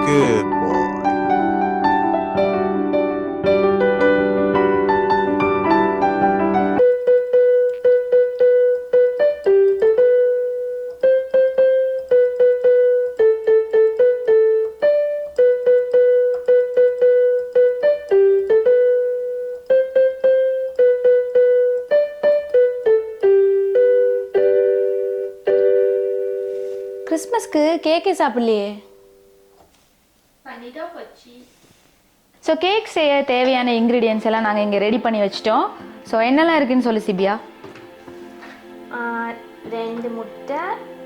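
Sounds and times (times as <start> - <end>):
electronic keyboard melody: 0.0 - 29.5, 33.8 - 41.0.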